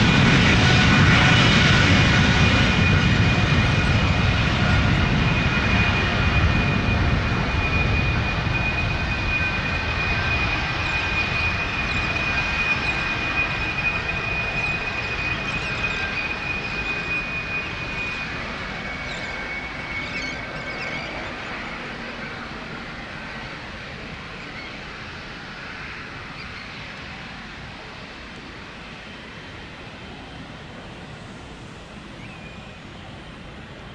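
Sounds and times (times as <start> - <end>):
jet engines roaring on takeoff: 0.0 - 33.9.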